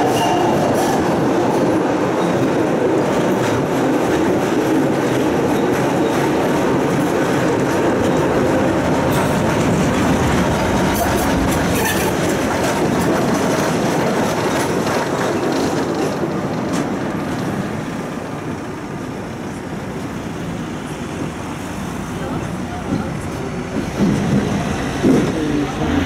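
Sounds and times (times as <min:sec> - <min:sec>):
sharp clicks over rails: 0:00.0 - 0:18.7, 0:22.9 - 0:25.6
tram wheels rumbling on track: 0:00.0 - 0:26.0.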